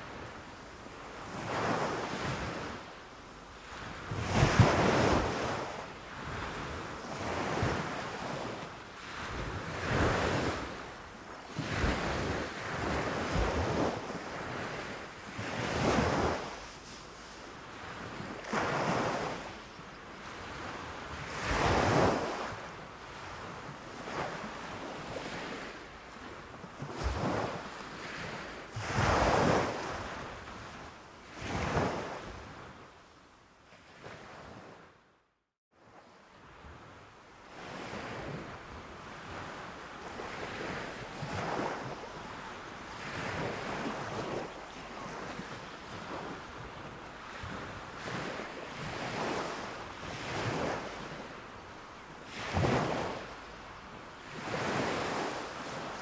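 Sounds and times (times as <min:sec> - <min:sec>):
small waves breaking on beach: 0:00.0 - 0:35.0, 0:35.8 - 0:56.0.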